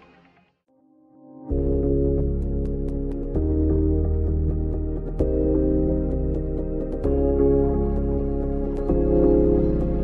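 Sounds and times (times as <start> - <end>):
background music sustained chords: 0.1 - 10.0.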